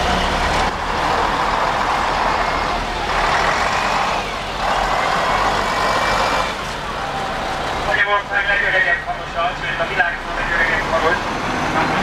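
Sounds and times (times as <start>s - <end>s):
bus diesel engine passing: 0.0s - 12.0s.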